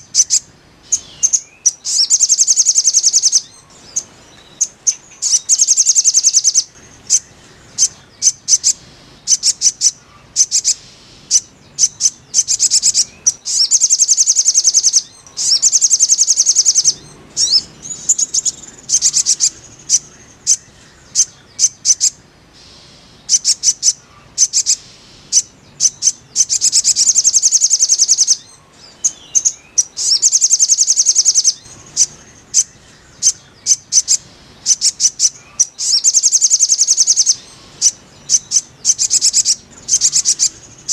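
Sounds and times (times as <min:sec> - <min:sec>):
bird chirping trills: 0:00.0 - 0:40.9.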